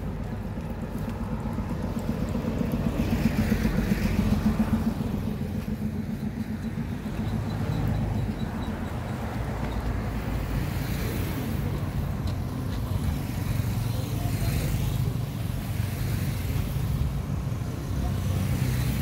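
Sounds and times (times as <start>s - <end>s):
motorcycles on road: 0.0s - 19.0s
street traffic rumble: 0.0s - 19.0s.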